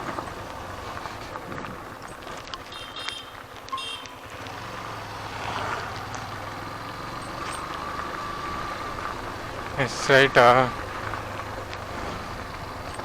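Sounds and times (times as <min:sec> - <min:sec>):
motorcycle engine hum: 0:00.0 - 0:13.0
wind and road noise: 0:00.0 - 0:13.0.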